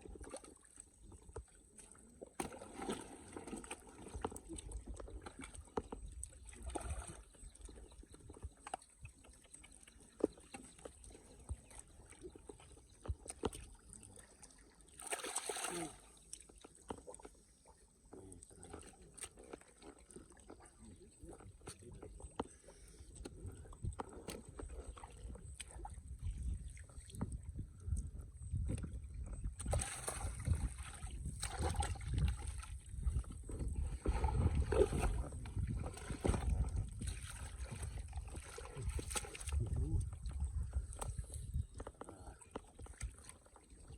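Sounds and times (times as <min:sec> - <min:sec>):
water sloshing and splashing: 0:00.0 - 0:43.9.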